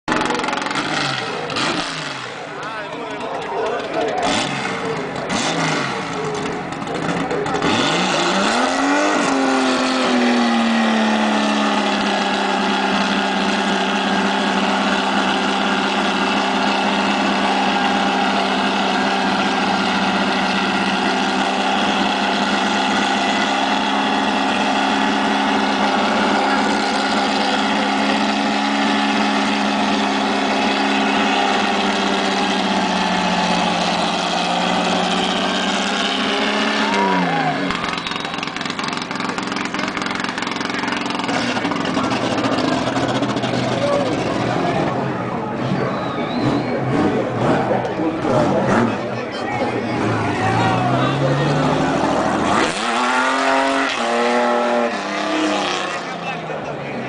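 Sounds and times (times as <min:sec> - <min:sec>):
drag car engine revving: 0:00.0 - 0:57.0
tyres spinning on asphalt: 0:00.1 - 0:57.0.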